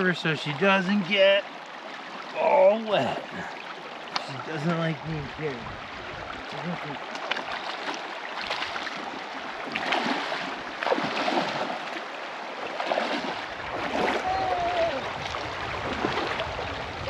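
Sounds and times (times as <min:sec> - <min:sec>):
river water rushing: 0:00.0 - 0:17.0
person wading through water: 0:01.1 - 0:17.0.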